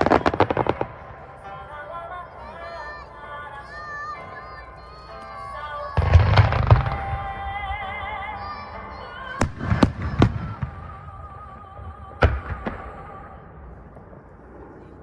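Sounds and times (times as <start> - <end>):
fireworks bangs: 0.0 - 1.9, 4.2 - 15.0.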